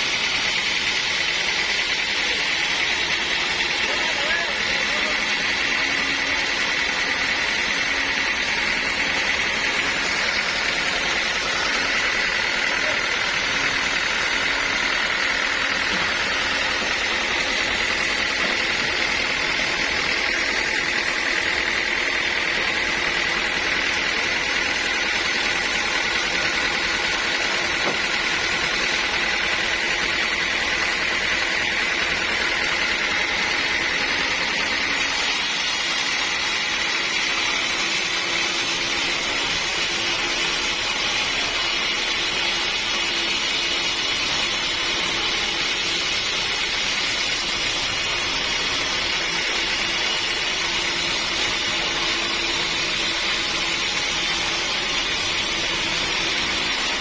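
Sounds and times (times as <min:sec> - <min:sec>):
high saw tone: 0:00.0 - 0:57.0
machine noise: 0:00.0 - 0:57.0
sawmill saw running: 0:00.0 - 0:57.0.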